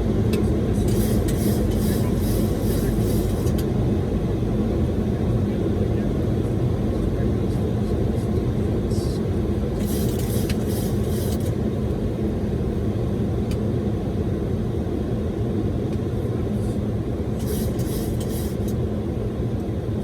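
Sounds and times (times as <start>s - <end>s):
airflow and engines rumbling: 0.0s - 20.0s.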